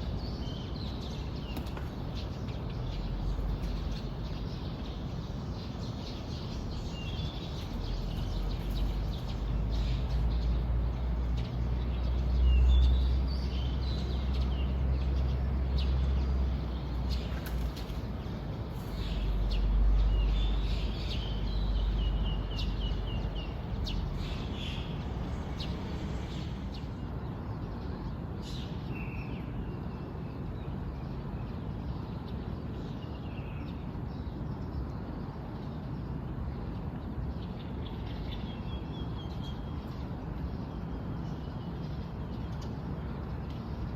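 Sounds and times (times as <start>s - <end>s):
small songbirds chirping: 0.0s - 43.9s.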